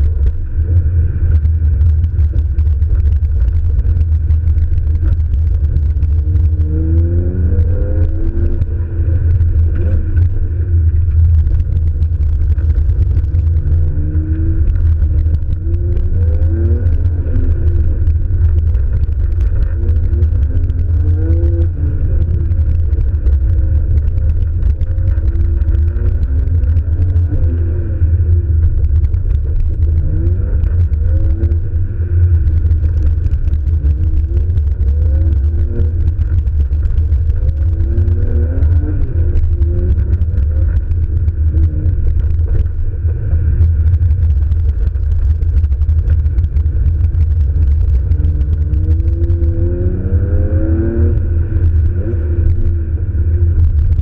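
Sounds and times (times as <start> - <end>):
car engine revving: 0.0 - 54.0
heavy low rumble: 0.0 - 54.0.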